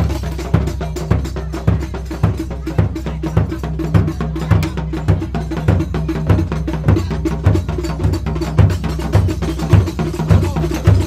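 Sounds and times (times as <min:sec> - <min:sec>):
heavy low drum beat: 0:00.0 - 0:11.0
procession music on drums: 0:00.0 - 0:11.0
sharp clicking percussion strokes: 0:00.0 - 0:11.0.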